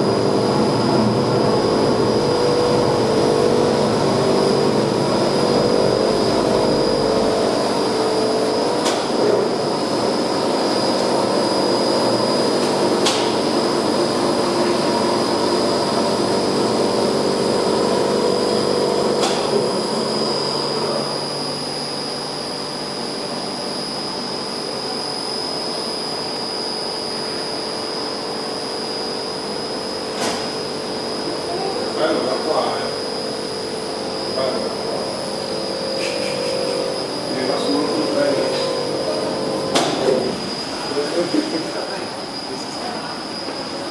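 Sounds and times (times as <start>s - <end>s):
heat pump humming with high whine: 0.0s - 43.9s.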